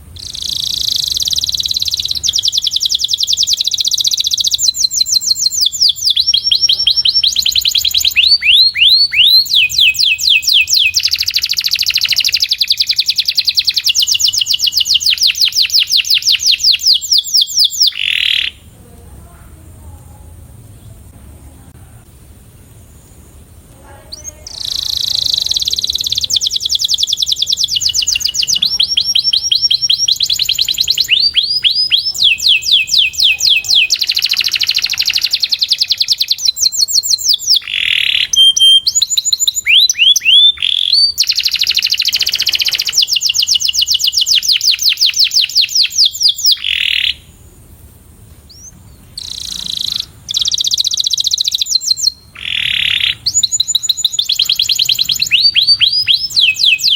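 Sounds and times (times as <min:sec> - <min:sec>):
canary singing trills: 0:00.0 - 0:18.8, 0:22.5 - 0:47.5, 0:48.5 - 0:56.9.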